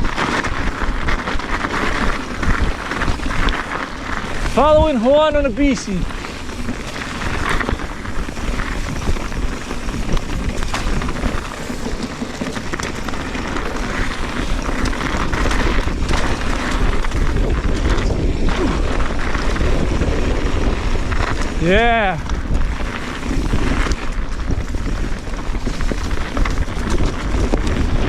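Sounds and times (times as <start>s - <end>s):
bike knocking over bumps: 0.0s - 28.0s
bike rattle and tyre noise: 0.0s - 28.0s
wind buffeting microphone: 0.0s - 28.0s.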